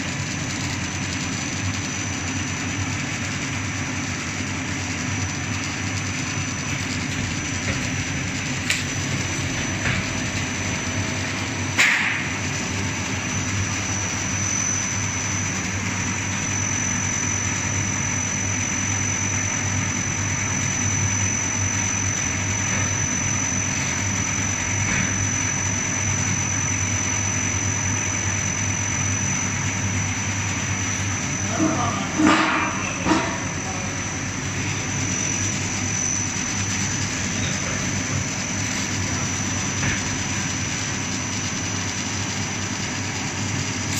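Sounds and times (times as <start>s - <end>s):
machine motor hum with high whine: 0.0s - 43.9s.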